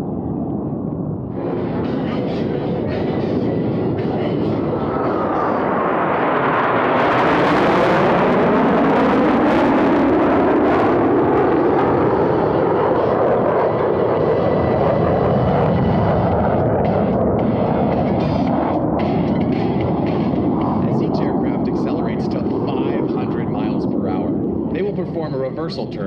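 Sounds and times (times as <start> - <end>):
jet roar of fly-past: 0.0 - 26.0
jet whine falling in pitch: 0.0 - 26.0.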